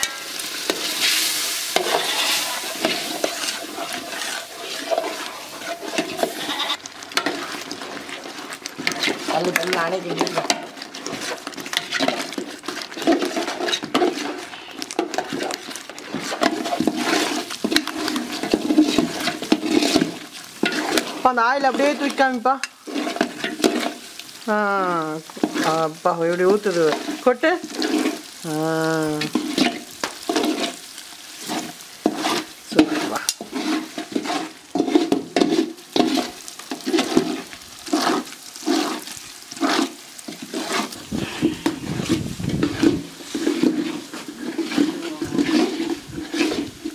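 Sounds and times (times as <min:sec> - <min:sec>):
metal ladles scraping a pot: 0:00.0 - 0:46.9.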